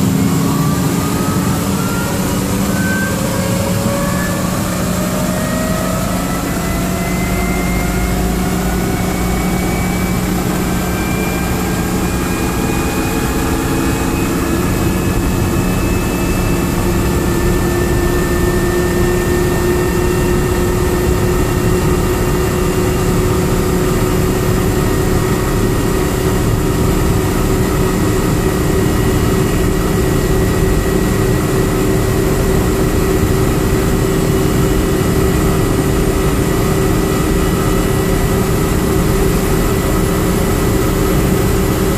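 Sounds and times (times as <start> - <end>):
helicopter turbine whine: 0.0 - 41.9.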